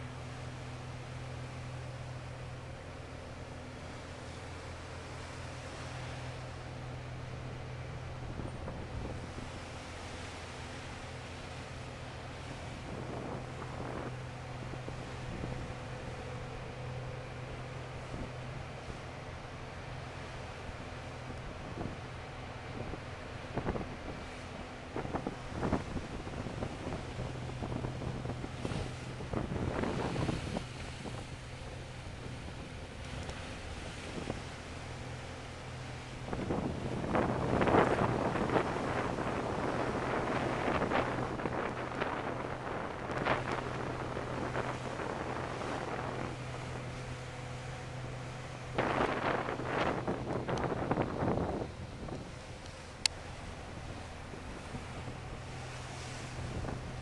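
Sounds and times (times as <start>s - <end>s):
ferry engine low hum: 0.0s - 57.0s
water wash: 0.0s - 57.0s
wind buffeting microphone: 8.1s - 19.1s, 20.2s - 57.0s.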